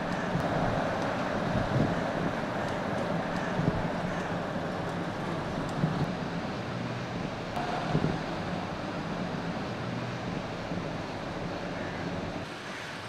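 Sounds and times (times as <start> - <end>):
bus diesel engine hum: 0.0 - 13.0
road and wind noise: 0.0 - 13.0.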